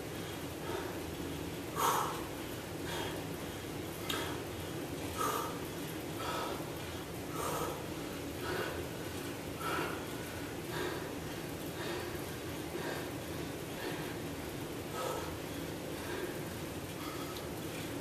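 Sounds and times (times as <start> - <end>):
man breathing hard: 0.0 - 17.8.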